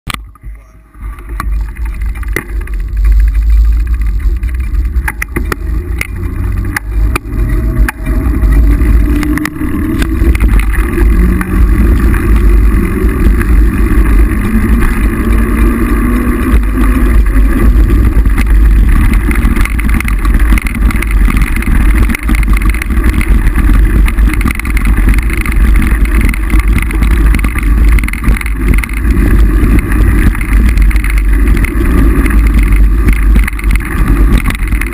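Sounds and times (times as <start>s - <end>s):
bike rattling over rough ground: 0.1s - 34.9s
wind buffeting microphone: 1.0s - 34.9s.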